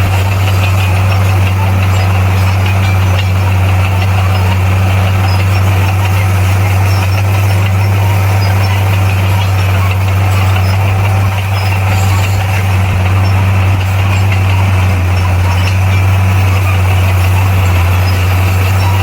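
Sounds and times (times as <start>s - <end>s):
bulldozer diesel engine humming: 0.0s - 19.0s.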